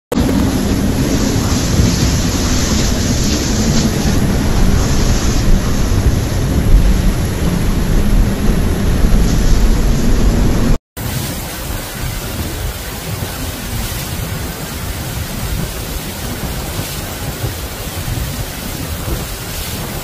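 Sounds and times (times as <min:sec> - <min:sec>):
heavy rain: 0:00.1 - 0:20.0
storm wind: 0:00.1 - 0:20.0
wind buffeting microphone: 0:00.1 - 0:20.0.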